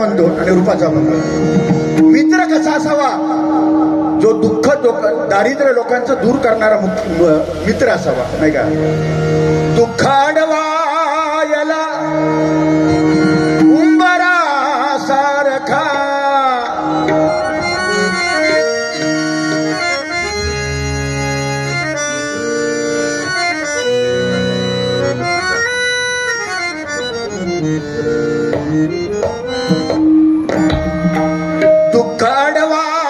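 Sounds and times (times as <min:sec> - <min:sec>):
harmonium playing: 0:00.0 - 0:33.0.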